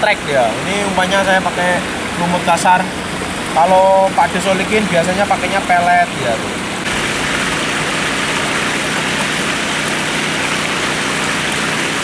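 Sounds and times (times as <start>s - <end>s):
river water rushing over weir: 0.0s - 12.0s.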